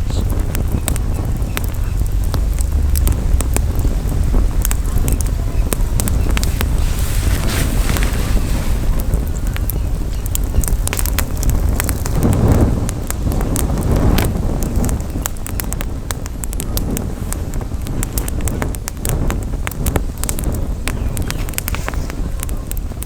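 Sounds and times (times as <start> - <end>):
campfire crackling: 0.0 - 23.0
wind rumble on microphone: 0.0 - 23.0.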